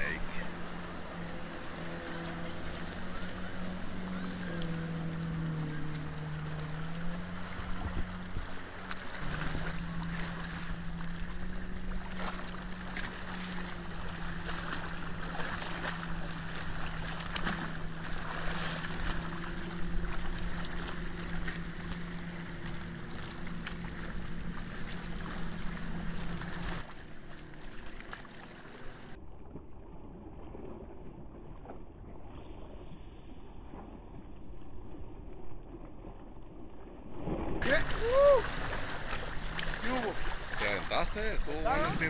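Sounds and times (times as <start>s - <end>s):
water lapping at rocky shore: 0.0s - 32.8s, 33.7s - 42.0s
wind: 0.0s - 42.0s.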